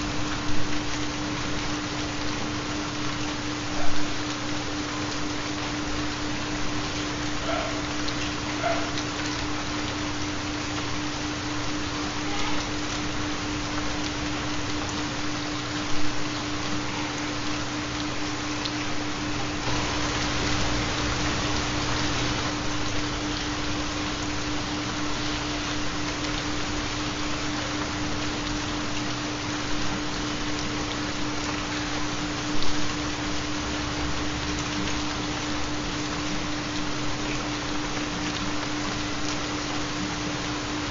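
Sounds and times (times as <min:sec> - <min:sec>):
steady rain falling: 0:00.0 - 0:40.9
water splashes: 0:00.0 - 0:40.9.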